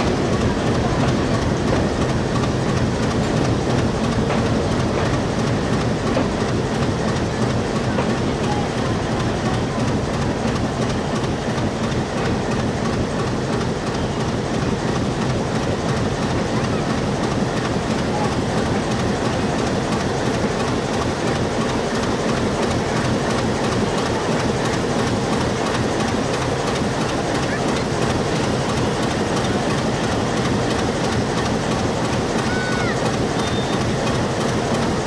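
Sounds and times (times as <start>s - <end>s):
clickety-clack over rail joints: 0.0s - 35.0s
train wheels rumbling: 0.0s - 35.0s.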